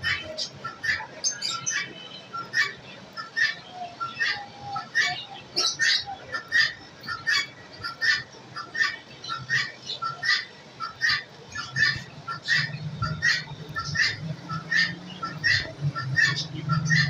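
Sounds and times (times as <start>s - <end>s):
cage birds chirping: 0.0s - 17.0s.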